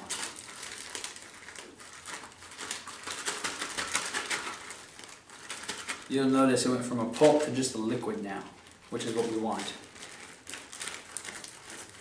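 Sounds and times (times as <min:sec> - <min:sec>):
fruit pulp squelching: 0:00.0 - 0:12.0
plastic bag crinkling: 0:00.0 - 0:12.0.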